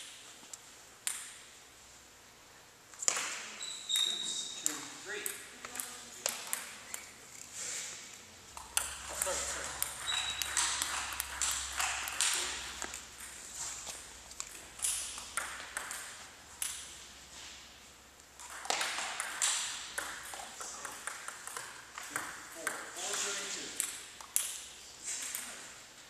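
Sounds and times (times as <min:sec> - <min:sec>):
table tennis balls clicking: 0:01.0 - 0:01.5, 0:03.0 - 0:07.5, 0:08.1 - 0:17.1, 0:18.2 - 0:25.6.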